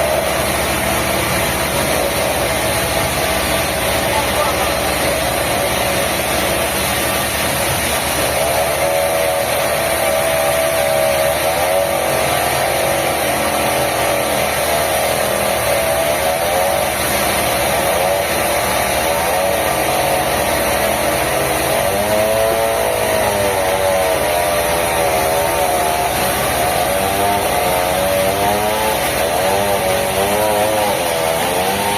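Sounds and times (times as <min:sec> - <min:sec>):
saw whining: 0:00.0 - 0:31.9
sawmill machinery running: 0:00.0 - 0:31.9.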